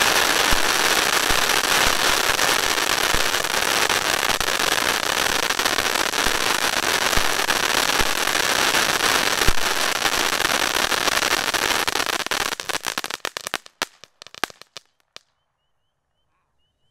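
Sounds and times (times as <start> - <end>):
firework fountain crackling: 0.0 - 15.2
sharp firework pops: 0.0 - 15.3.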